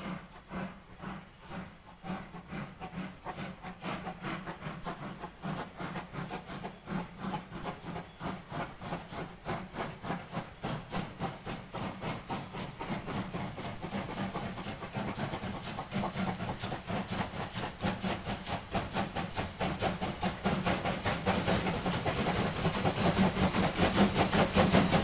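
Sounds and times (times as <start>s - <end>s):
steam hissing from drain cocks: 0.0s - 25.0s
steam locomotive exhaust chuffs: 0.0s - 25.0s.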